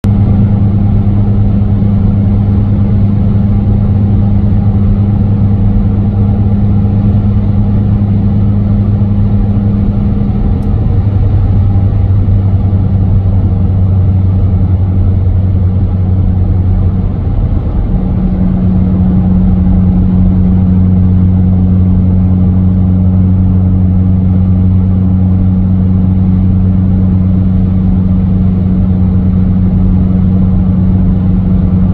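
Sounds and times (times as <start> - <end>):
engine and tyre drone: 0.0 - 31.9
low hum: 0.0 - 31.9.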